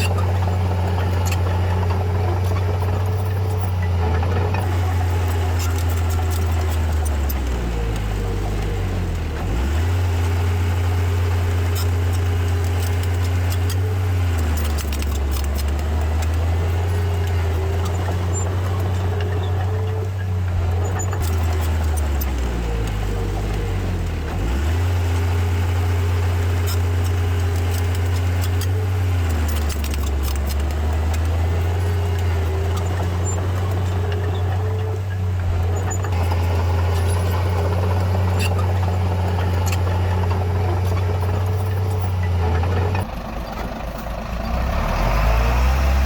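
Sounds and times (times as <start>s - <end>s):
heavy diesel engine under load: 0.0s - 46.0s.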